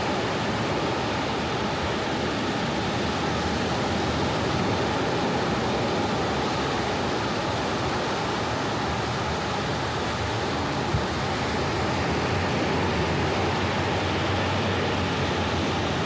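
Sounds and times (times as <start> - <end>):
ocean waves washing on beach: 0.0 - 16.0.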